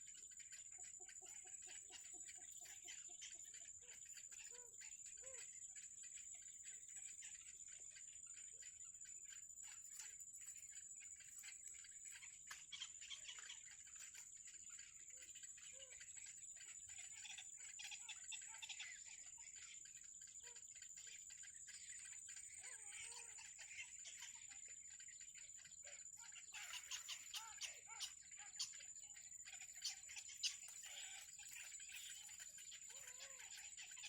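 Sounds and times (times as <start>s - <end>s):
soft short bird calls: 0.0s - 7.6s, 11.2s - 34.0s.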